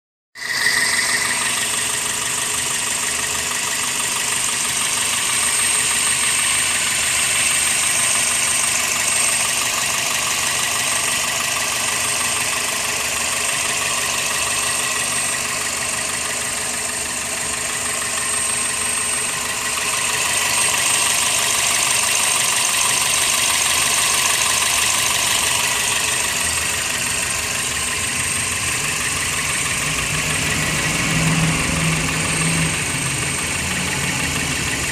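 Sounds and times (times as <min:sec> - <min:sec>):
car engine idling: 0:00.4 - 0:34.9.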